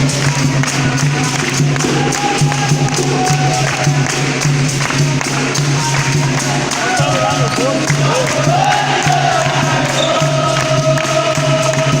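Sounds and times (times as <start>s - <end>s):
tambourine strikes: 0.0s - 12.0s.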